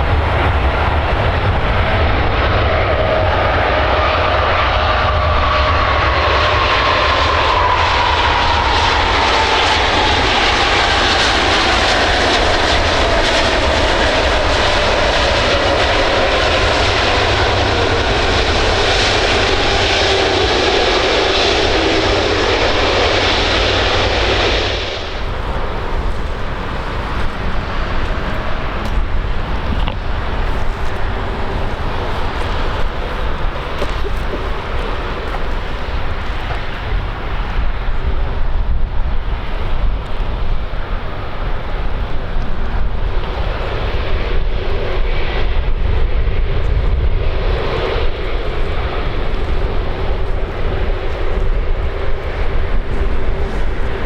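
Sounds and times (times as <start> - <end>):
jet aircraft passing: 0.0 - 54.0
low rumble: 0.0 - 54.0.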